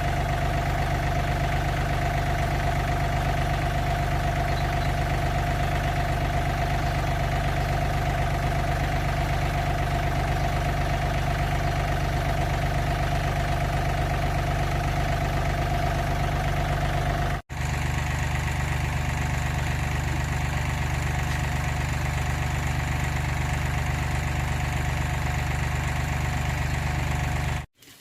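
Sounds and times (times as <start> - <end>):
car engine idling: 0.0 - 27.7.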